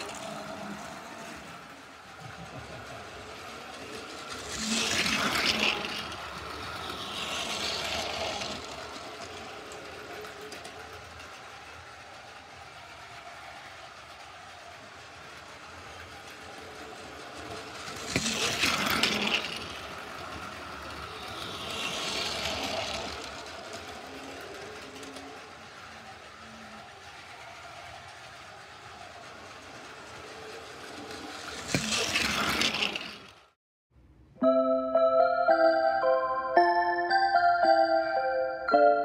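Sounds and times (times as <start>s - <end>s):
plastic wheels clattering on track: 0.0s - 33.5s
toy train motor whir: 0.0s - 33.5s.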